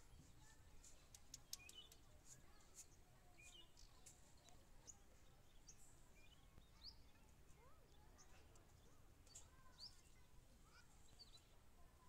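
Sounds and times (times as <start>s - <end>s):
faint bird chirps: 0.2s - 11.6s.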